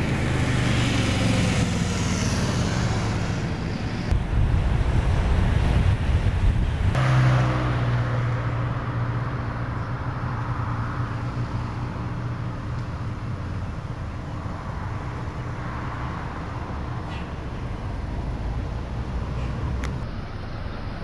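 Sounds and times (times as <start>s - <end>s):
tyre and road noise: 0.0s - 21.0s
vehicle engine humming: 0.0s - 21.0s.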